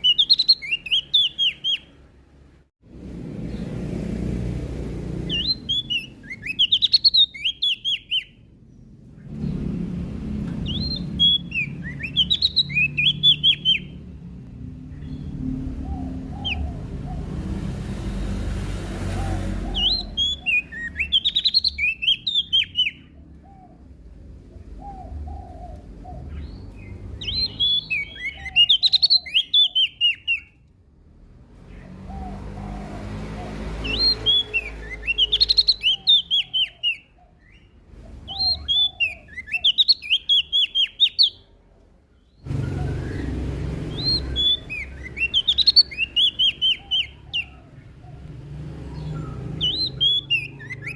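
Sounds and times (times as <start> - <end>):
songbird twittering chirps: 0.0 - 2.2, 4.9 - 18.4, 19.0 - 30.7, 31.6 - 41.6, 42.2 - 50.9.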